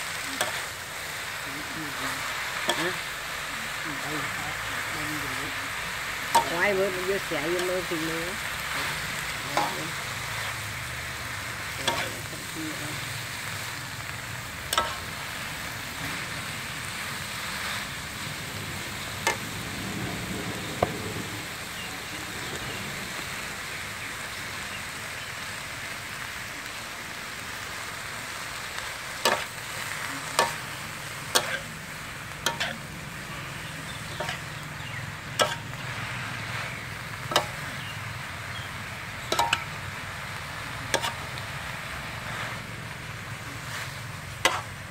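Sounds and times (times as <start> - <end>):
cabbage and pork sizzling in a wok: 0.0 - 44.9.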